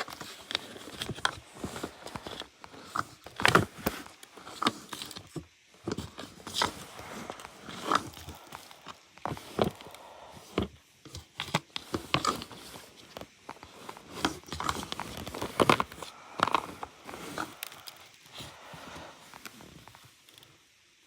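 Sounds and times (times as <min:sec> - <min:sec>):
plastic parts clicking and knocking: 0:00.0 - 0:19.5
crinkling rustles: 0:00.0 - 0:20.6.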